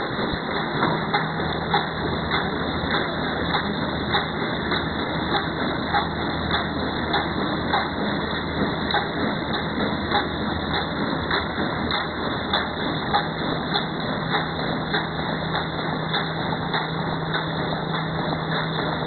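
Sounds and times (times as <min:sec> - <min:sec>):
machine clacking: 0:00.0 - 0:19.0
packing machine whirring: 0:00.0 - 0:19.0.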